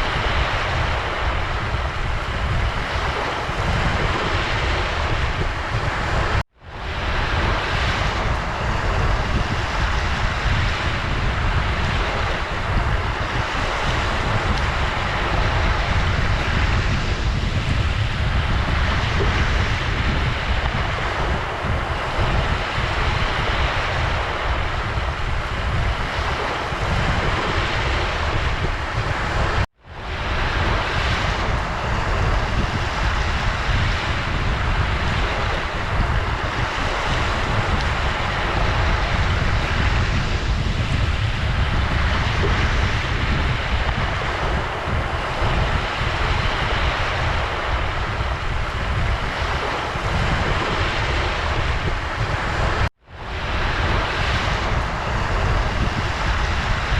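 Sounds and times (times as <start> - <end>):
ocean surf washing on shore: 0.0 - 56.9.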